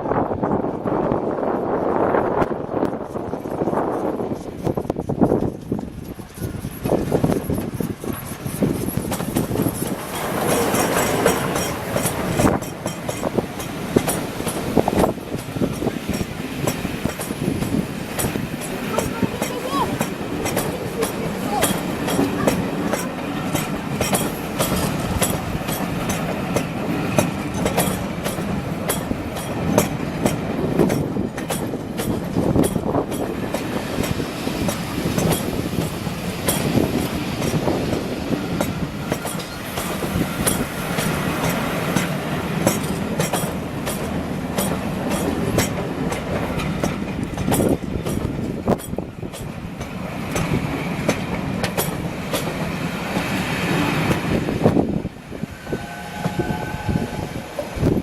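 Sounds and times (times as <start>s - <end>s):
train rumbling: 0.0s - 58.0s
wheels clicking over rail joints: 2.4s - 55.1s.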